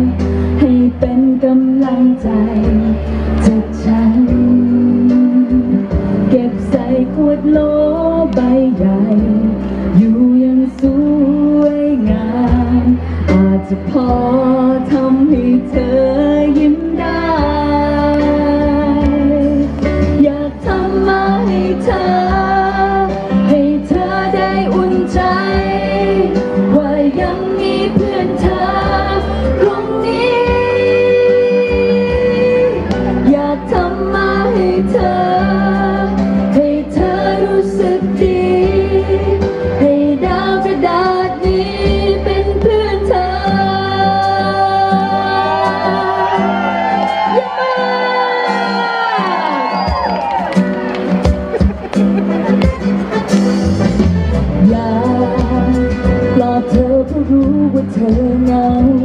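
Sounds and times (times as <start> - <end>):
woman singing into a microphone: 0.0 - 50.4, 54.5 - 59.0
pop backing track over loudspeakers: 0.0 - 59.0.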